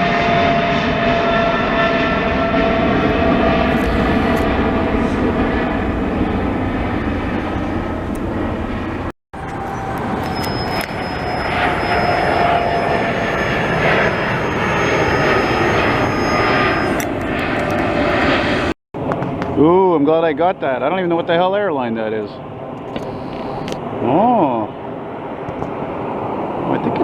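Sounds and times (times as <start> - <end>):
jet airliner passing low overhead: 0.0 - 27.0.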